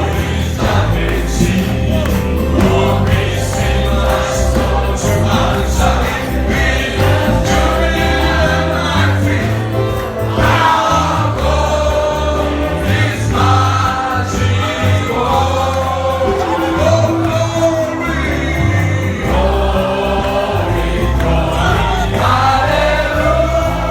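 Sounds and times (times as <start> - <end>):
choir singing gospel song: 0.0 - 23.9
instrumental backing with bass: 0.0 - 23.9.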